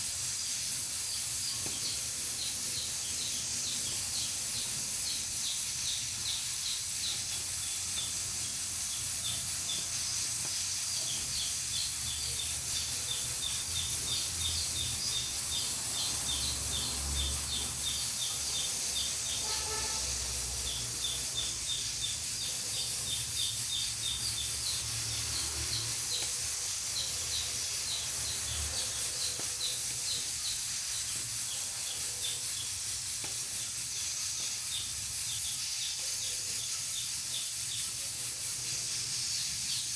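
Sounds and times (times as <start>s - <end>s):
pressure cooker hissing steam: 0.0s - 39.9s
rapid high chirps: 0.0s - 39.9s.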